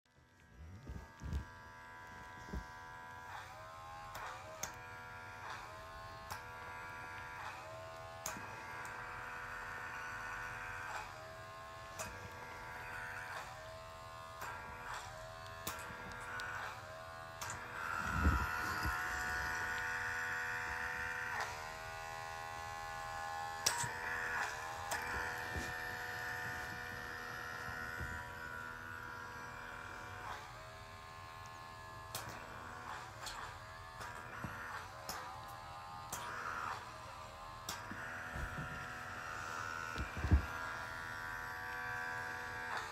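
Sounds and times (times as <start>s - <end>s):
pore vacuum buzzing whine: 0.1s - 42.9s.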